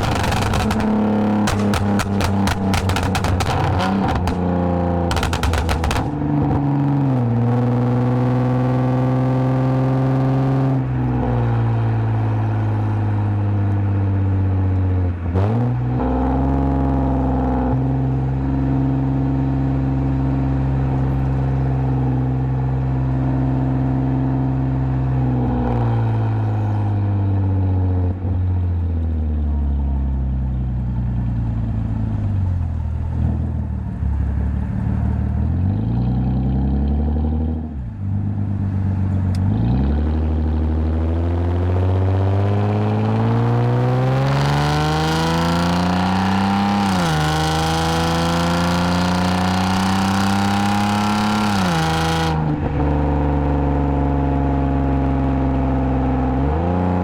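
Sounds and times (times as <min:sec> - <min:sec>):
car engine exhaust drone: 0:00.0 - 0:57.0.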